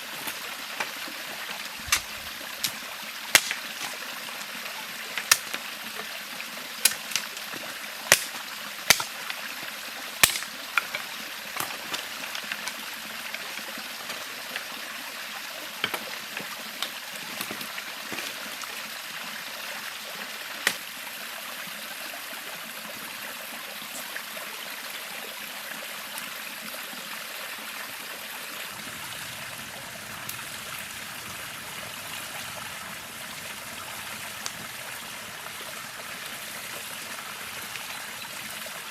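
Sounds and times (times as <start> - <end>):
river flowing: 0.0 - 24.9, 25.5 - 38.9.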